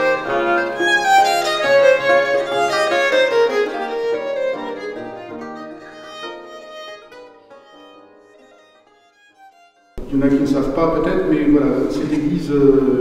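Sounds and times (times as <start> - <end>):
violin melody: 0.0 - 12.3.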